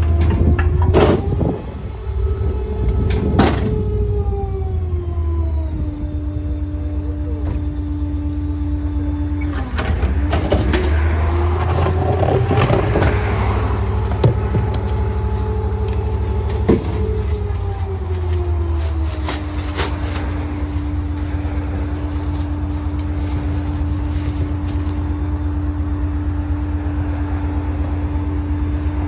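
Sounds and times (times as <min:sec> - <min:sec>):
garbage truck engine running: 0:00.0 - 0:29.0.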